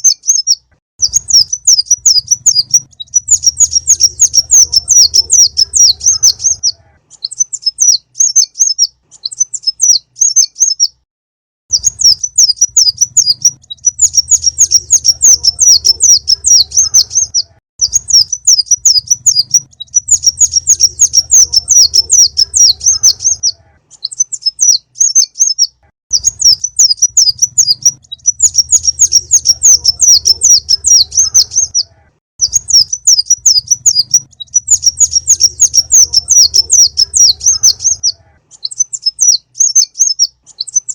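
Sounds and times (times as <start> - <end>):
high-pitched bird chirping: 0.0 - 11.0, 11.7 - 40.9.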